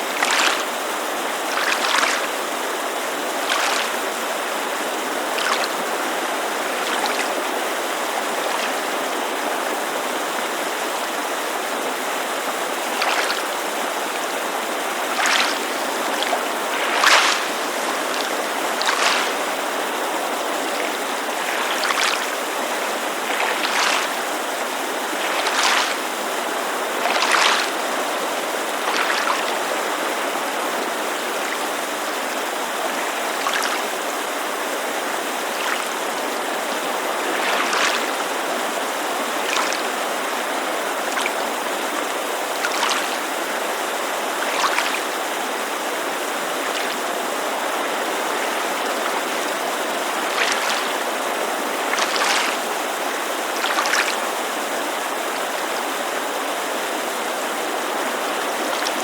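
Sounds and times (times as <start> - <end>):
creek rushing: 0.0 - 59.0
water lapping against shore: 0.0 - 59.0.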